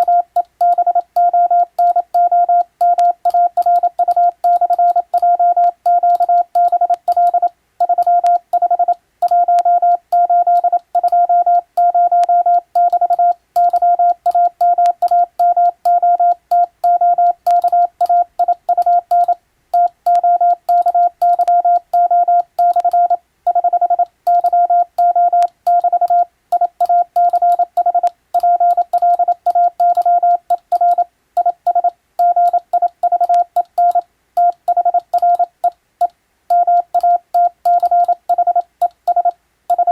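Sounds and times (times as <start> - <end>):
morse code beeps: 0.0 - 35.8, 36.5 - 39.9.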